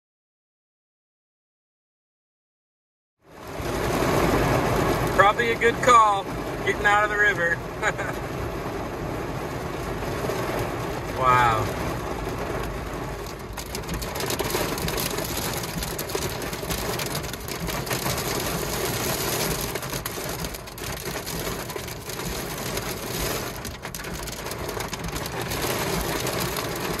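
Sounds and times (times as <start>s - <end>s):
heavy rain on car roof: 3.2s - 27.0s.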